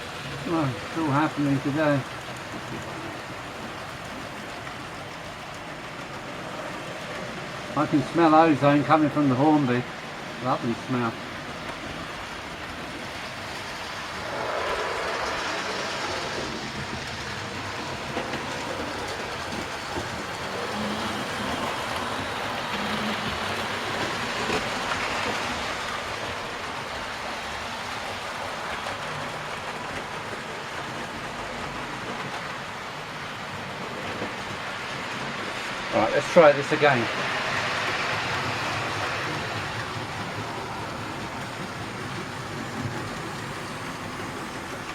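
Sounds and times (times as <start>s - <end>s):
model trains rumbling on track: 0.0s - 44.9s.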